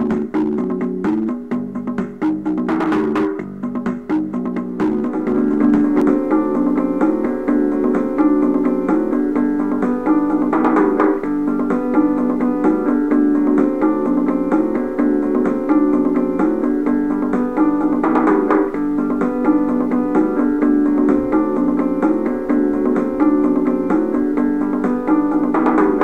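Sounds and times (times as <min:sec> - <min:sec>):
keyboard tune repeated notes: 0:00.0 - 0:26.0.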